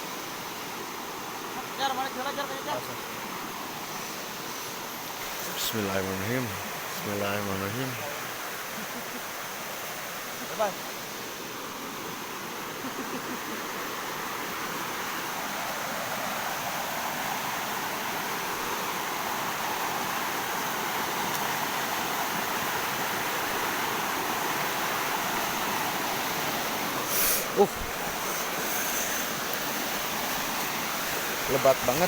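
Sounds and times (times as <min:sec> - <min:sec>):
fast river rushing: 0:00.0 - 0:32.0.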